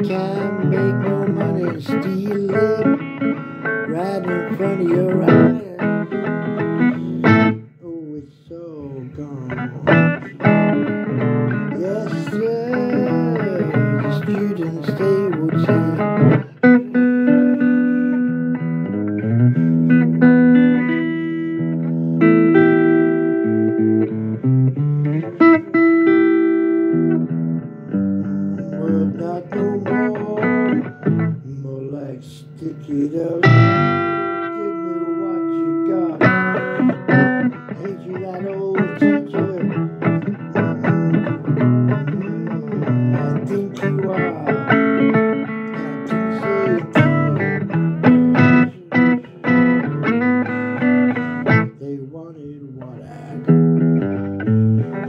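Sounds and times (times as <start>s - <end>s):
blues guitar playing: 0.0s - 55.0s.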